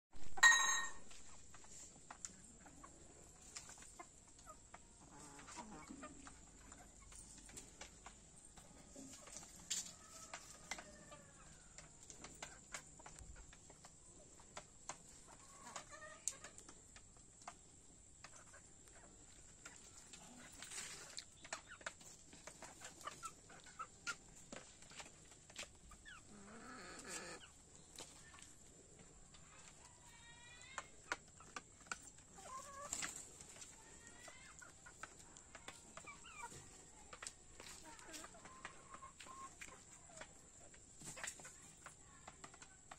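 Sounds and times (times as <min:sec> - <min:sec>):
chickens clucking: 0:00.2 - 0:42.9
chicken calls: 0:01.6 - 0:24.6, 0:25.4 - 0:42.8.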